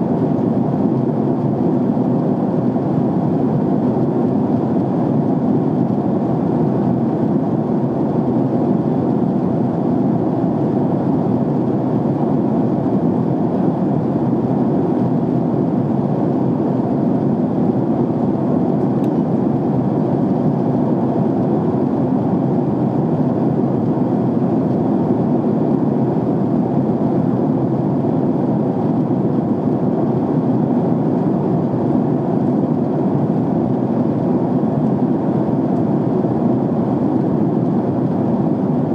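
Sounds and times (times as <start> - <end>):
airliner cabin engine rush: 0.0 - 38.9.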